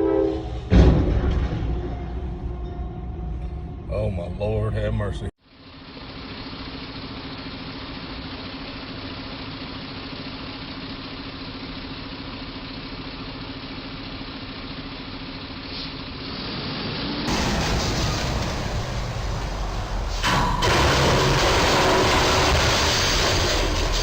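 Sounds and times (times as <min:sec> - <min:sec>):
vehicle engine running: 0:01.4 - 0:24.0.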